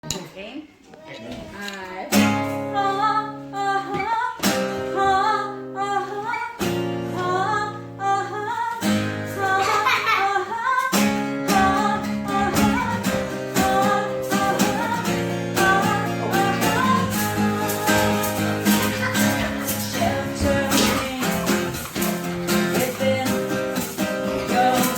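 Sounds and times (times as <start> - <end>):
woman singing: 1.8 - 24.9
acoustic guitar strummed: 2.1 - 24.9.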